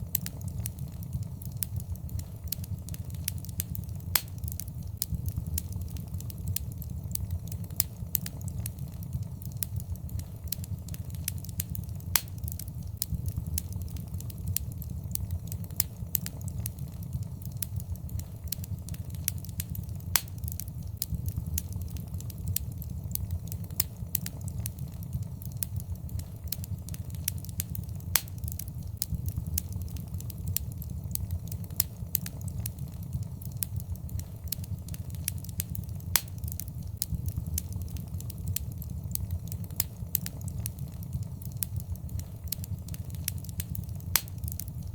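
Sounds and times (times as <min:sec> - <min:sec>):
low rumble of flames: 0:00.0 - 0:44.9
wood fire crackling: 0:00.0 - 0:44.9.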